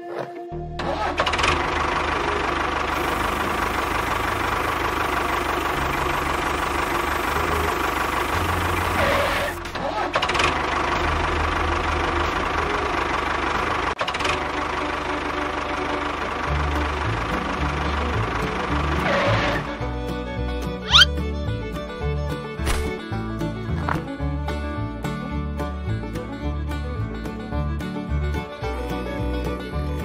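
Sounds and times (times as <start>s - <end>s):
tractor engine running: 0.8s - 30.0s.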